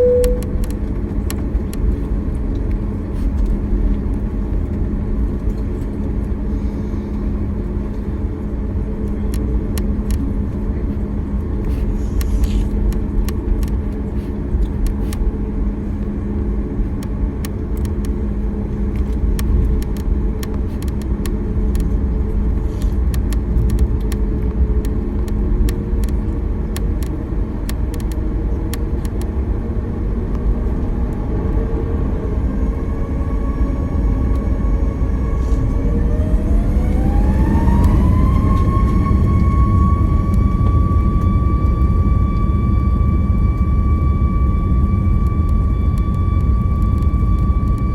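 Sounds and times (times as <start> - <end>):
jet engines humming: 0.0 - 47.9.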